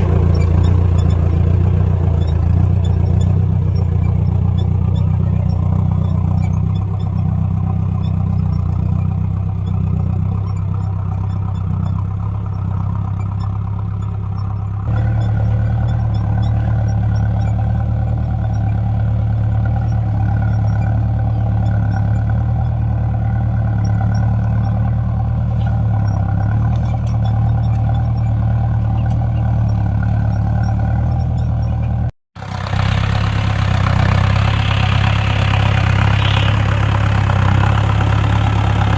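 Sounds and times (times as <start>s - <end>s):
tractor diesel engine humming: 0.0s - 38.9s.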